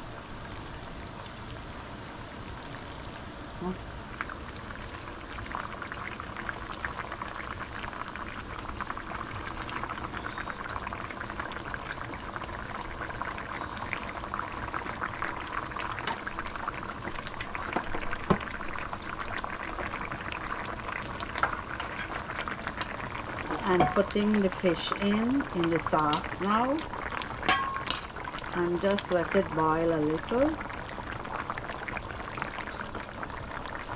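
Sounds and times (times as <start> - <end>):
sauce bubbling and popping: 0.4 - 33.9.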